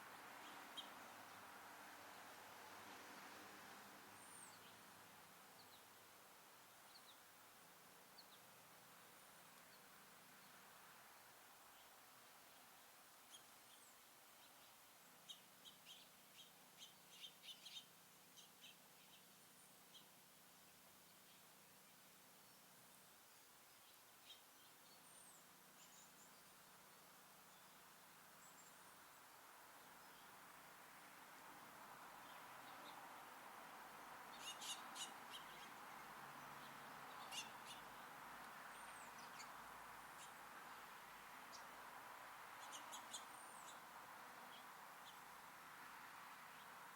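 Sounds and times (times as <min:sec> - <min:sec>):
songbirds chirping: 0:00.0 - 0:46.9
steady background hiss: 0:00.0 - 0:46.9.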